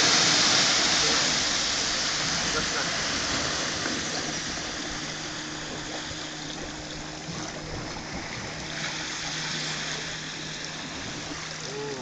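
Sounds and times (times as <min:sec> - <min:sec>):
sea waves hissing: 0:00.0 - 0:12.0.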